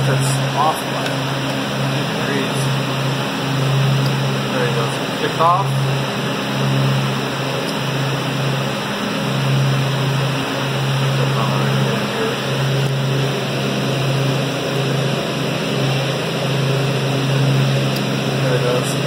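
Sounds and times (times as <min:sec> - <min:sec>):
cooler fans humming: 0:00.0 - 0:19.0.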